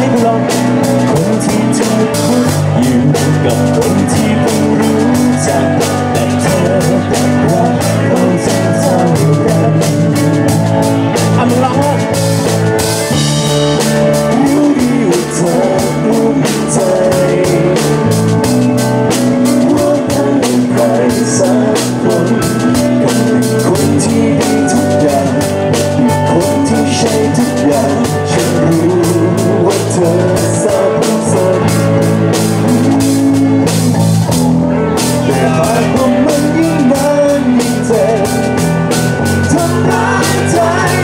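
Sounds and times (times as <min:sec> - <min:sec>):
drum-kit beat: 0:00.0 - 0:41.0
electric guitar: 0:00.0 - 0:41.0
keyboard: 0:00.0 - 0:41.0
person singing: 0:00.0 - 0:41.0.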